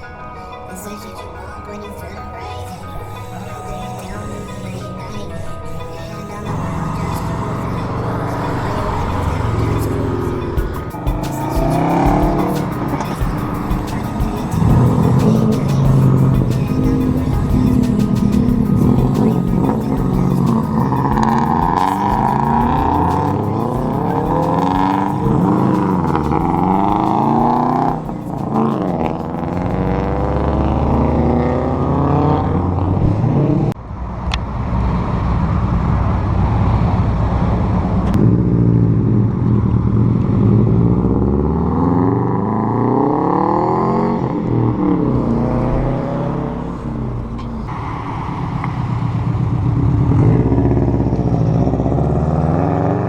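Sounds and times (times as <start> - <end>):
car engines revving: 6.4 - 53.0.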